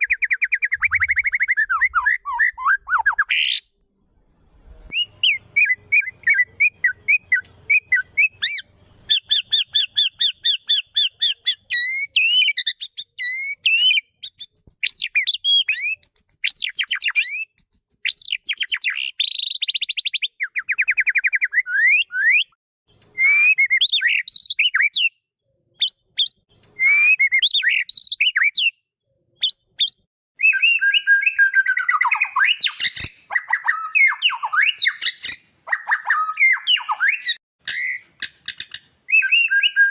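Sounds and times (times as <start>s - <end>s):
songbird singing whistles and trills: 0.0s - 25.2s, 25.8s - 39.9s.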